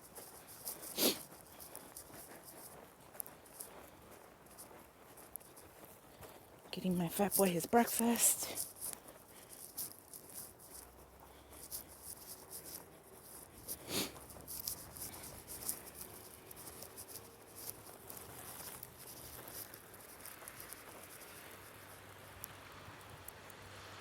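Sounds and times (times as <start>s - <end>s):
footsteps crunching in snow: 0.0s - 23.2s.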